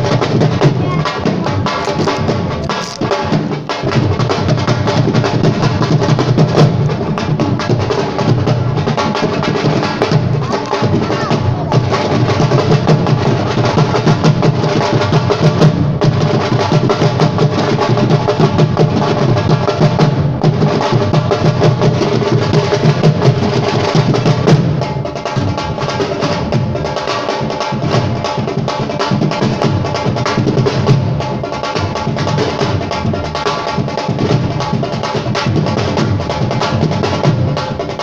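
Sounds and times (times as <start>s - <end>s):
drums playing fast rhythm: 0.0s - 38.0s.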